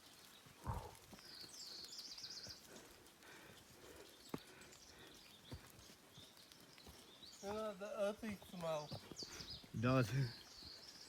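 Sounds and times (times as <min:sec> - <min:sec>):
faint bird song: 0:00.0 - 0:11.0.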